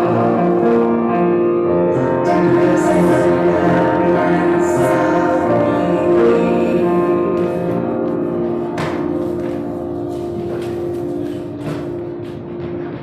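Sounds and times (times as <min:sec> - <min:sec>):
slow hymn on keyboard: 0:00.0 - 0:13.0.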